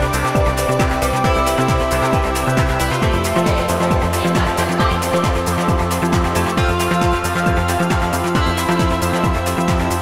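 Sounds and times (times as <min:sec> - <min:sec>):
held synth chords: 0:00.0 - 0:10.0
kick drum: 0:00.0 - 0:10.0.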